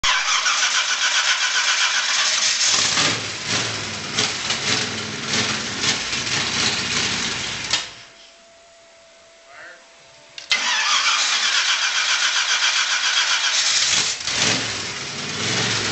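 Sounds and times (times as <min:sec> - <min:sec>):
engine cranking on starter: 0:00.0 - 0:07.9, 0:10.5 - 0:15.9.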